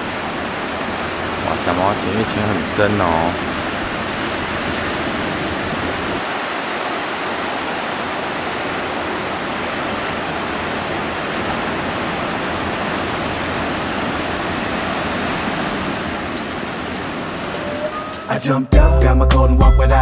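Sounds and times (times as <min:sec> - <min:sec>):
ocean surf breaking: 0:00.0 - 0:18.7.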